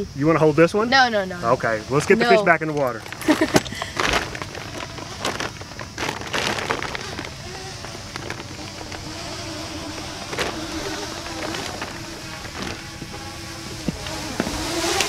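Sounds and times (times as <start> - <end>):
crackling handling noises: 2.2 - 15.0.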